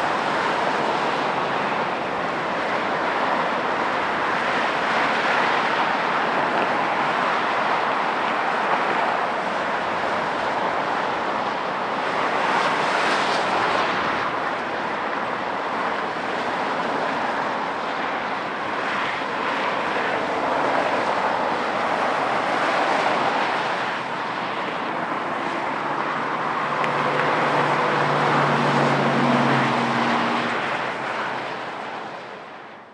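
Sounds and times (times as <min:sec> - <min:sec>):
jet engines roaring: 0:00.0 - 0:32.9.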